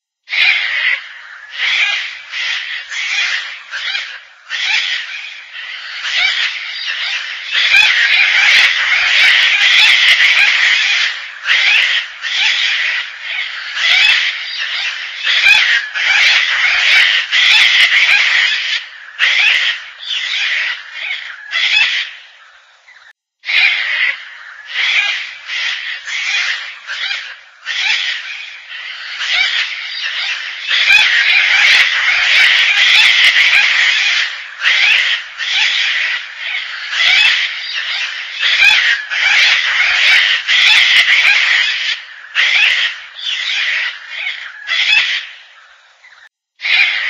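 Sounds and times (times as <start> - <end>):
cockatoo harsh scratchy calls: 0.3 - 47.0.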